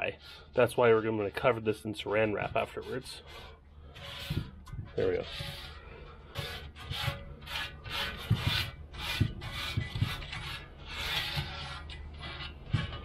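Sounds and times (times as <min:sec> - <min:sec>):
wet rubbing strokes: 0:00.2 - 0:13.0.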